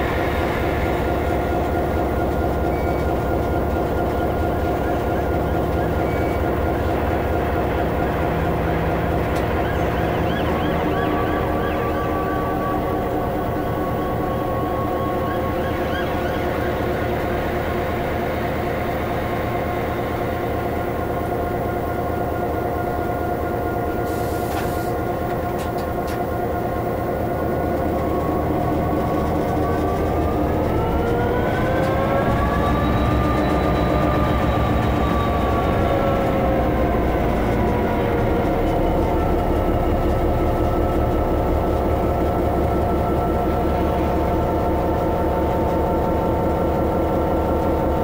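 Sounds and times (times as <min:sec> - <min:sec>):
diesel locomotive engine running: 0:00.0 - 0:48.0.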